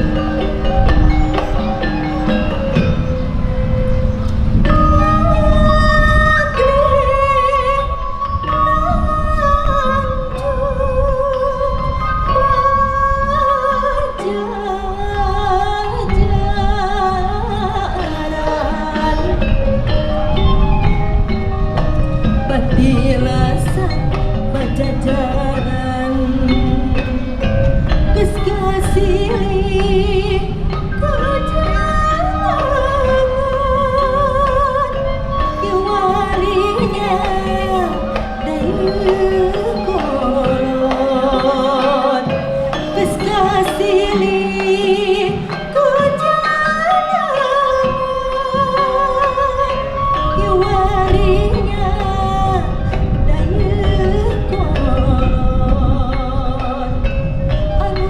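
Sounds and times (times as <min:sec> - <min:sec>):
gamelan ensemble playing: 0:00.0 - 0:58.0.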